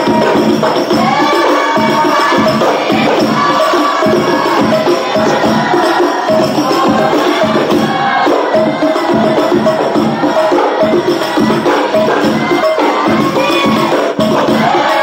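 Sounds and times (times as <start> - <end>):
frame drums beating fast rhythm: 0.0 - 15.0.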